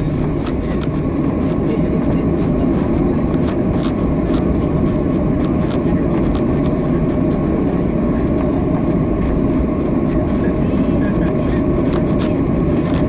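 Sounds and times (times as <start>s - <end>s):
faint jet engine whine: 0.0s - 13.0s
jet engines low rumble: 0.0s - 13.0s.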